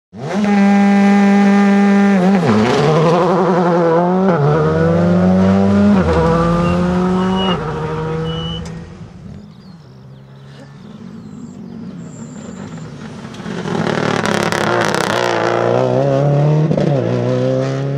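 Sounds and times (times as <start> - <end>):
rally car engine shifting gears: 0.2 - 17.9.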